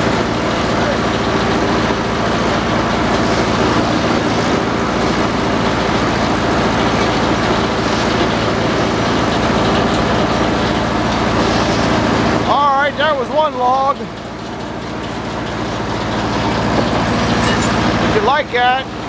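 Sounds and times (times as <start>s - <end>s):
circular sawmill running: 0.0s - 19.0s.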